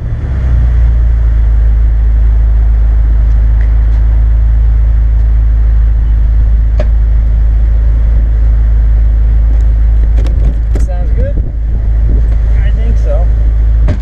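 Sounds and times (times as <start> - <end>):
car exhaust droning: 0.0 - 14.0.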